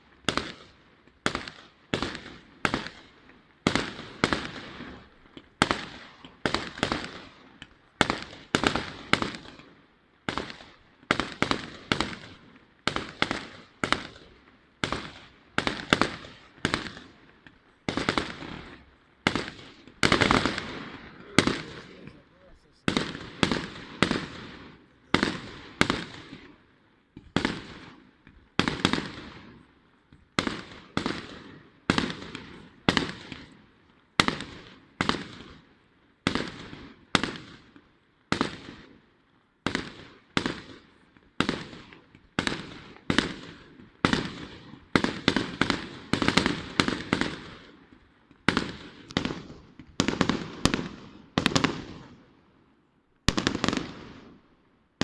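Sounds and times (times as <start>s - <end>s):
fireworks loud bangs: 0.1s - 39.0s, 39.6s - 52.2s, 53.3s - 54.4s.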